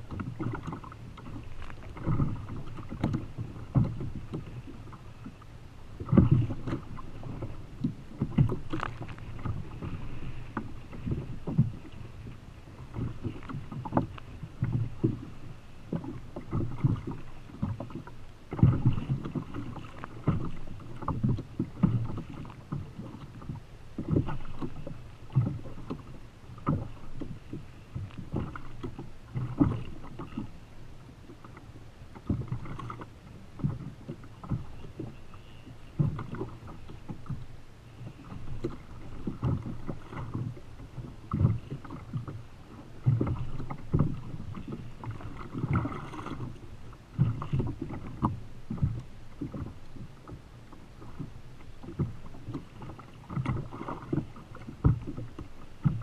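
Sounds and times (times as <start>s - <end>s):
low thuds and splashes: 0.0s - 56.0s
sea slapping against kayak hull: 0.0s - 56.0s.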